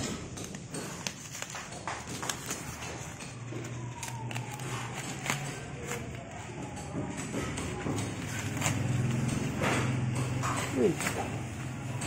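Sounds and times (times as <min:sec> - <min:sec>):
knife cutting plastic wrapping: 0:00.0 - 0:06.6, 0:07.6 - 0:12.0.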